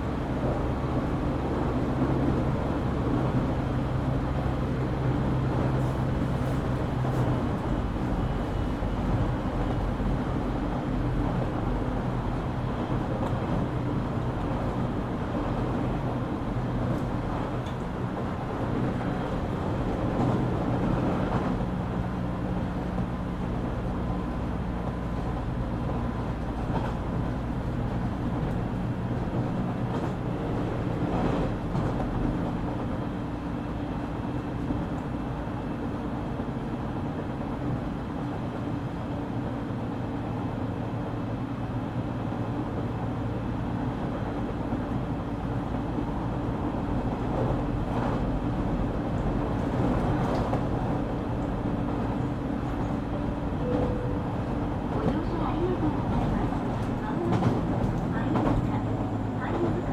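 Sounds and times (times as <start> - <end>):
train motors humming: 0.0 - 59.9
train wheels droning on rail: 0.0 - 59.9.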